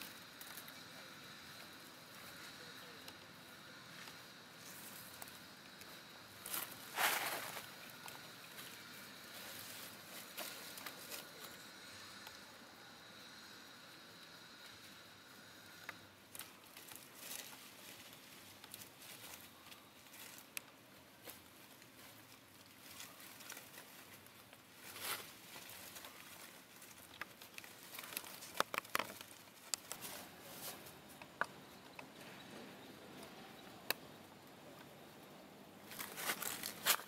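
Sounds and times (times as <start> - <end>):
rustling in dry leaves: 0.0 - 13.5, 15.6 - 31.2, 35.8 - 37.0.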